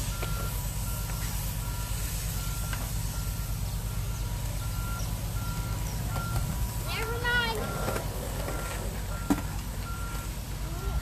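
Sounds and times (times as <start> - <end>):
diesel engine rumble: 0.0 - 11.0
truck reversing alarm beeping: 0.0 - 11.0.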